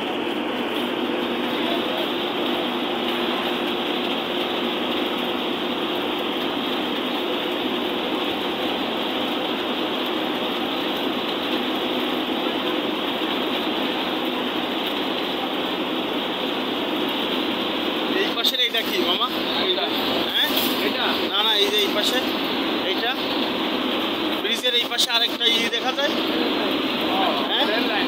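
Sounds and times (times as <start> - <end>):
bus engine hum: 0.0 - 28.0
tyre and road noise: 0.0 - 28.0.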